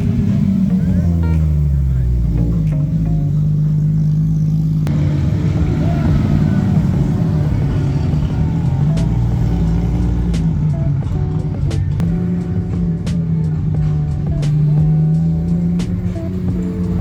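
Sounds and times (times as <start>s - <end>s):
car engines running: 0.0s - 17.0s
music playing: 0.0s - 17.0s.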